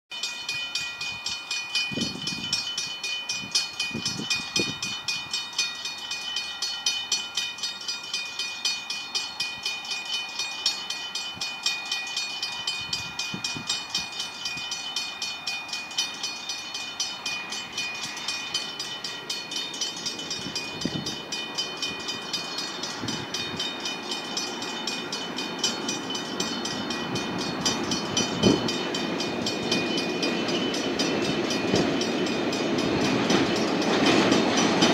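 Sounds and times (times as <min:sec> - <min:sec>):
level crossing bells ringing: 0:00.1 - 0:34.9.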